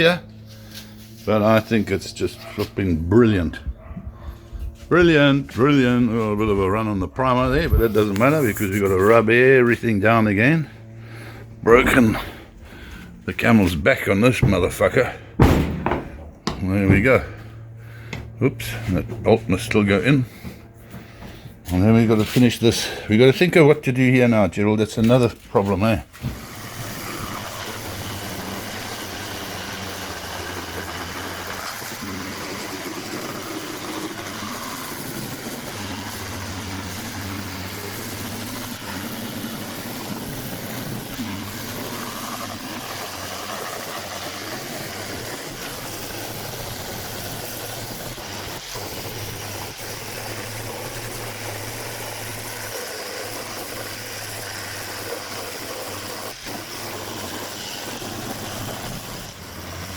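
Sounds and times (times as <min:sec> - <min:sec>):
mechanical drone with low hum: 0:00.0 - 0:59.9.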